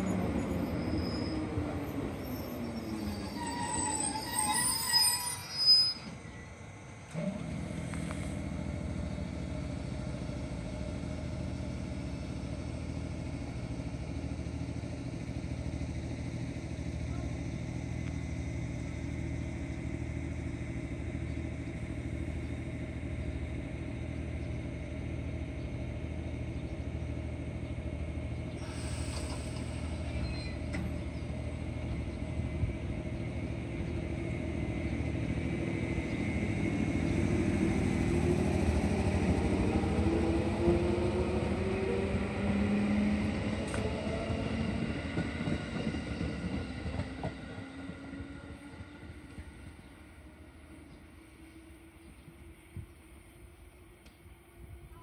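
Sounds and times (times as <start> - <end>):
electric train humming: 0.0 - 55.0
train pulling away: 0.0 - 55.0.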